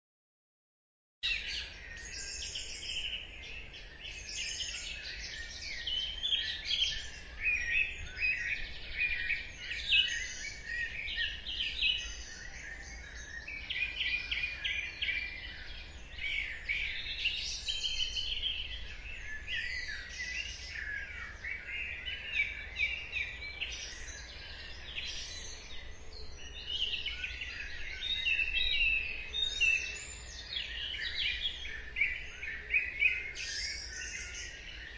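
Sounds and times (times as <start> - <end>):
birds singing: 1.2 - 34.9.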